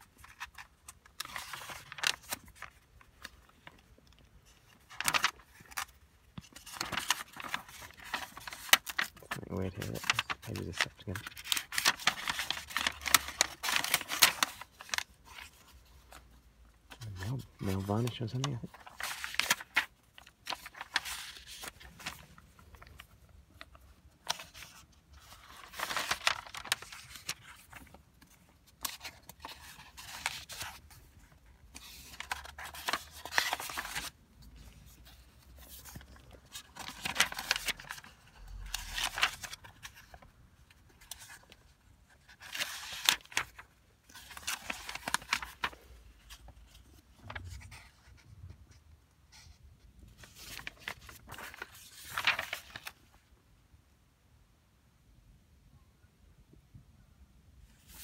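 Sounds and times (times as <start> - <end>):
paper pages turning: 0.0 - 53.2, 57.8 - 58.0.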